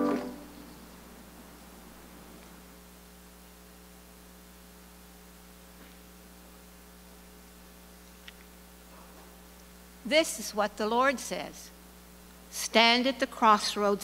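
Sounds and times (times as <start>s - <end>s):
low electrical mains hum: 0.0s - 14.0s.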